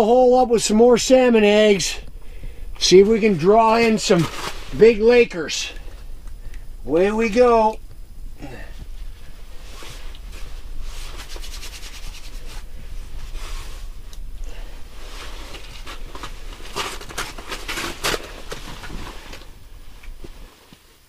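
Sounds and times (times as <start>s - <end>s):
low steady rumble: 0.0s - 21.0s
rustling and handling noises: 2.0s - 6.7s, 8.6s - 21.0s.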